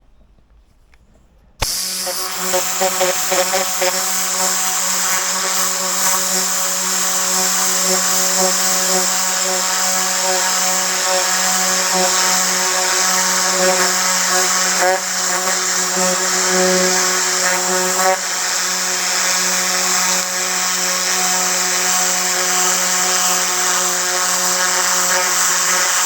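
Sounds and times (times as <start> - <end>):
nozzle tube buzzing whir: 1.6 - 26.0.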